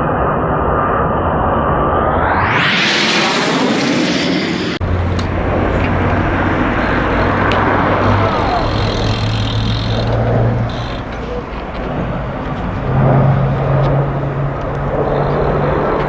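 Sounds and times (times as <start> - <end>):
loud aircraft noise: 1.5 - 16.0
engine drone: 2.1 - 16.0.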